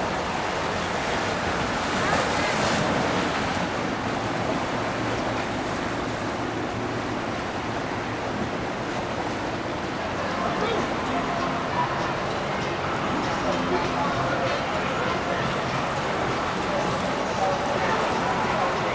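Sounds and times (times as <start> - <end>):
rushing water: 0.0 - 18.9.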